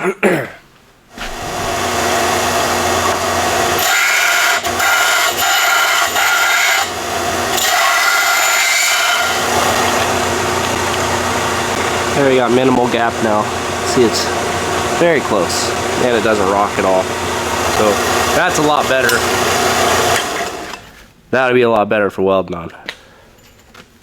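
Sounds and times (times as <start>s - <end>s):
electric power sander grinding: 1.2s - 20.9s.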